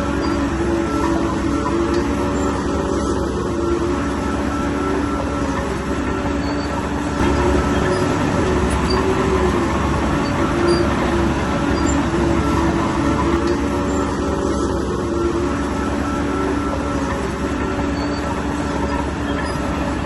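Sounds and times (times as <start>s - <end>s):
bulldozer diesel engine under load: 0.0s - 20.0s
crawler tracks clanking and squealing: 0.0s - 20.0s.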